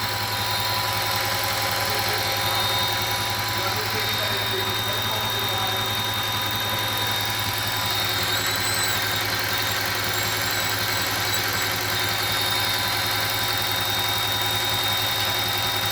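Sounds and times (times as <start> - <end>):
car engine idling: 0.0 - 15.9
high-pitched whistle: 0.0 - 15.9.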